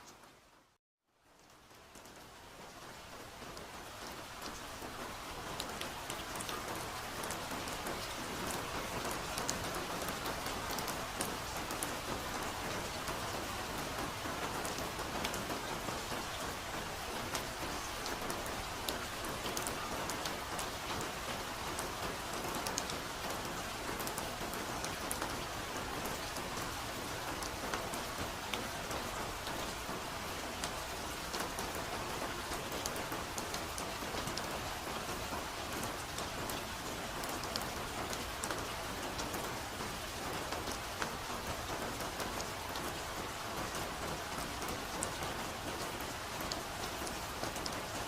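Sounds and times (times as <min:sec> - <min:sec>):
soft steady rain: 0:00.0 - 0:48.0.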